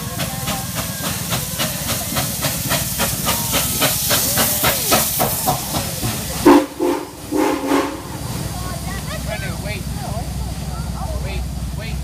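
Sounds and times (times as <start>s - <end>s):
steam hissing: 0.0s - 12.0s
steam locomotive exhaust chuffs: 0.0s - 12.0s.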